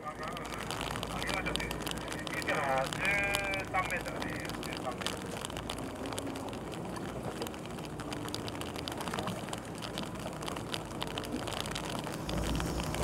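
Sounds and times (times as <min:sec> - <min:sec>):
boat engine humming: 0:00.0 - 0:13.0
rain pattering: 0:00.0 - 0:13.0.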